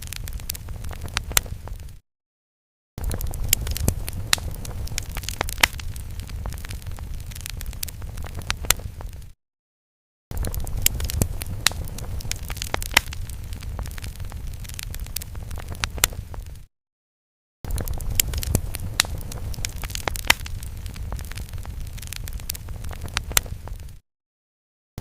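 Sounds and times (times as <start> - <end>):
fire crackling and popping: 0.0 - 2.0, 3.0 - 9.4, 10.3 - 16.7, 17.7 - 24.0.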